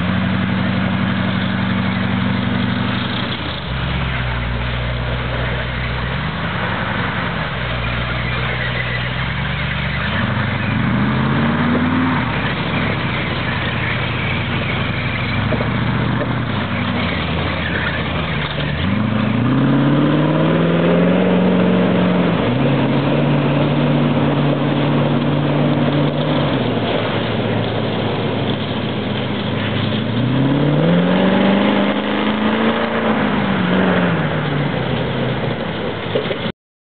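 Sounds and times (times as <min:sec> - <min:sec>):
engine revving: 0:00.0 - 0:36.4.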